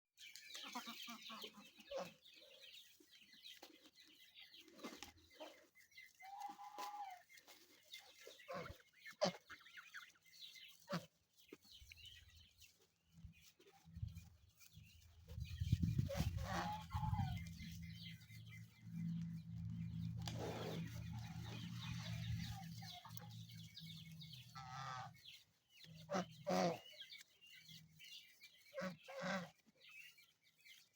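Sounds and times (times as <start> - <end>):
chickens clucking: 0.4 - 12.4, 13.2 - 28.0.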